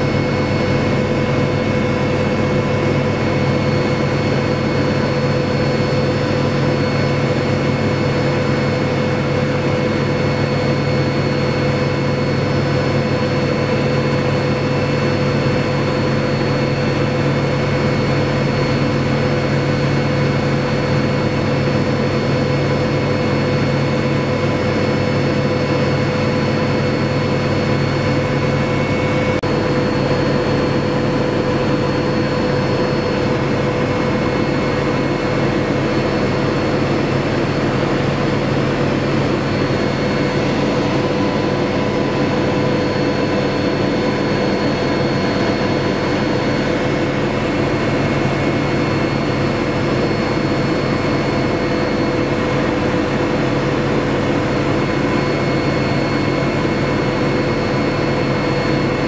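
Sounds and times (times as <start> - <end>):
constant high whine: 0.0 - 59.0
helicopter rotor and engine drone: 0.0 - 59.0.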